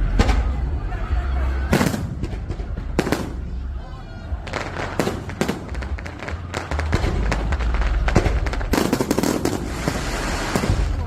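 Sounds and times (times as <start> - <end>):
fireworks bangs and crackles: 0.0 - 0.8, 1.6 - 11.0.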